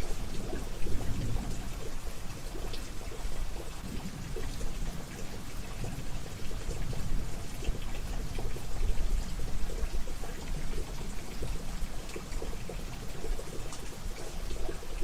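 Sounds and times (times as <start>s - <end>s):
raindrops ticking: 0.0s - 15.0s
steady rain hissing: 0.0s - 15.0s.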